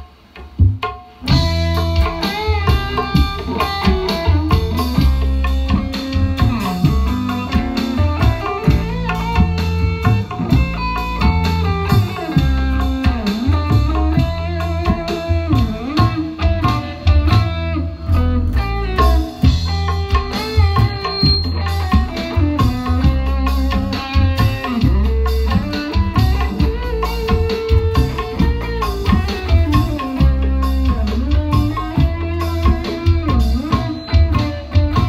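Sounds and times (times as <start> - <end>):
drum and bass backing: 0.0 - 35.0
electric guitar lead melody: 1.2 - 35.0.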